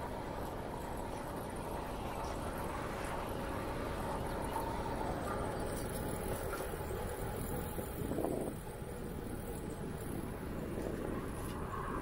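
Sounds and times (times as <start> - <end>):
bicycle tires rolling on asphalt: 0.0 - 12.0.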